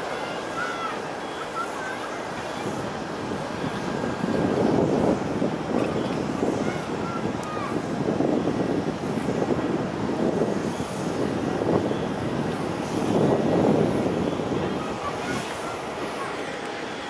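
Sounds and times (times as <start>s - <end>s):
turboprop airliner drone: 0.0s - 17.0s.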